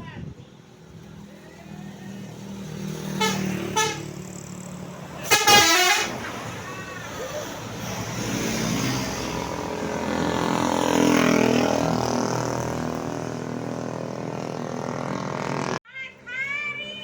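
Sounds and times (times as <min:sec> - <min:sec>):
bus engine driving past: 0:00.6 - 0:17.0.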